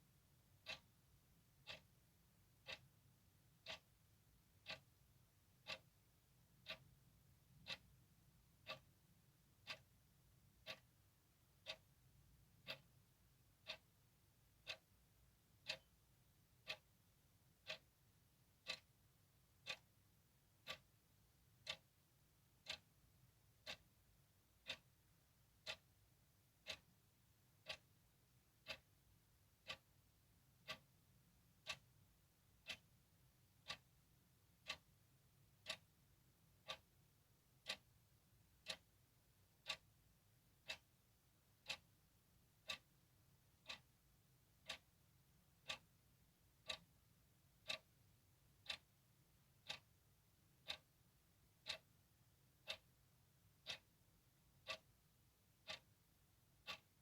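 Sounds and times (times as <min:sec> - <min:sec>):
clock ticking: 0:00.4 - 0:57.0.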